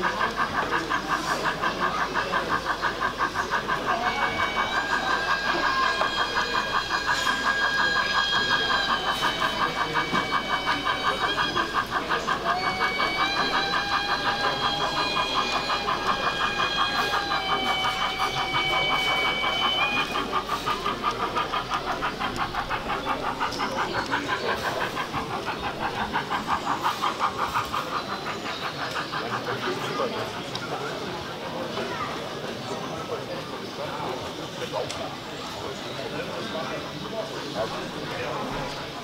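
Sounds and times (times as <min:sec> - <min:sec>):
model train pulsing: 0:00.0 - 0:39.0.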